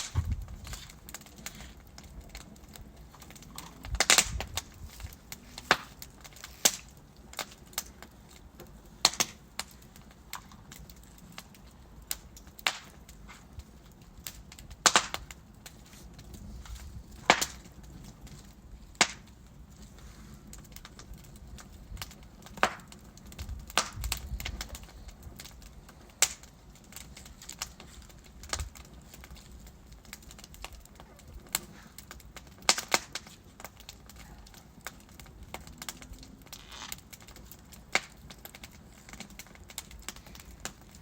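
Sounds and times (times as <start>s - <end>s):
flames rushing: 0.0s - 41.0s
logs crackling and popping: 0.0s - 41.0s.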